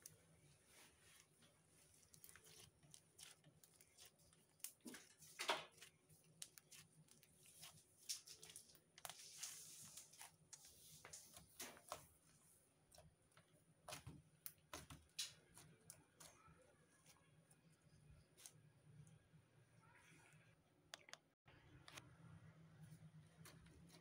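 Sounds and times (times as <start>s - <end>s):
slime squishing: 0.0s - 20.5s.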